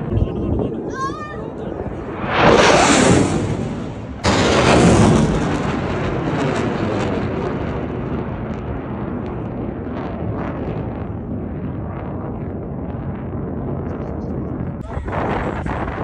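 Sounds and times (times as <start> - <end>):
jet aircraft roar: 0.0 - 16.0.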